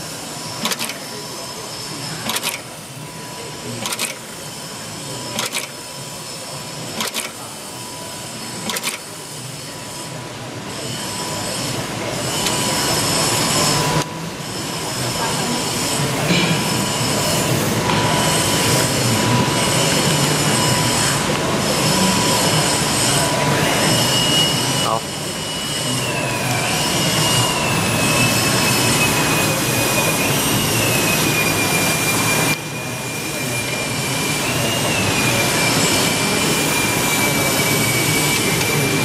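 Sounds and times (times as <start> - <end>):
machine whine with high tones: 0.0 - 39.0.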